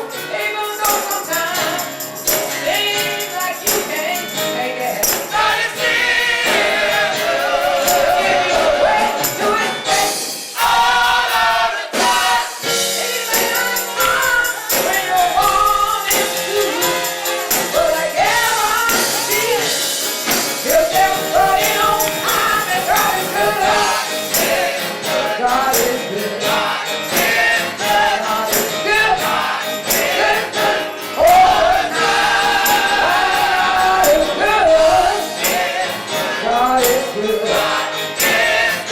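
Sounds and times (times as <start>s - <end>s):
band accompaniment: 0.0s - 38.9s
choir singing gospel: 0.0s - 38.9s
tambourine: 0.0s - 38.9s.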